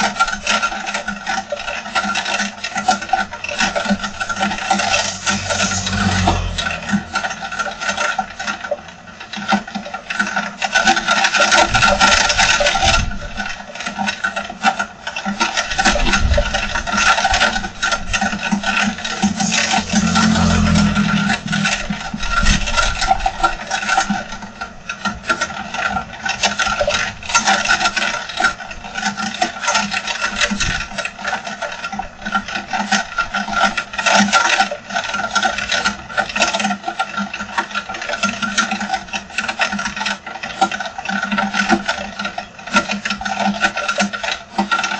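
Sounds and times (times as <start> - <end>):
wind: 0.0 - 44.9.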